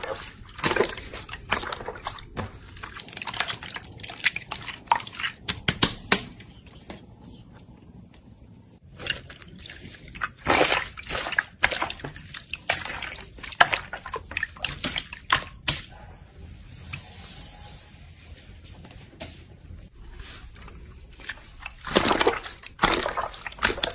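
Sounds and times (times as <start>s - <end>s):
slime squelching: 0.0s - 8.0s, 8.8s - 16.0s, 19.9s - 23.9s.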